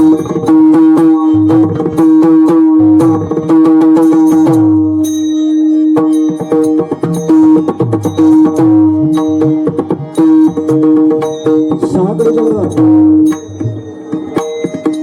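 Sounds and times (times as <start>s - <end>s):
hand drums playing quick rhythm: 0.0s - 5.1s, 6.0s - 15.0s
held melodic drone note: 0.0s - 15.0s.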